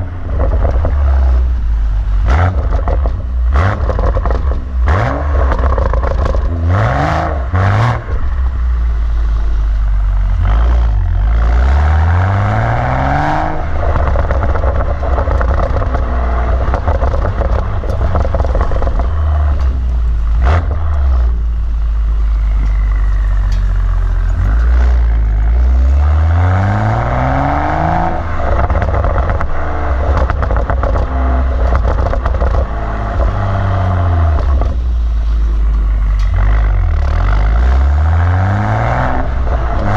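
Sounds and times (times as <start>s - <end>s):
car engine revving: 0.0s - 39.9s
exhaust crack: 0.0s - 39.9s.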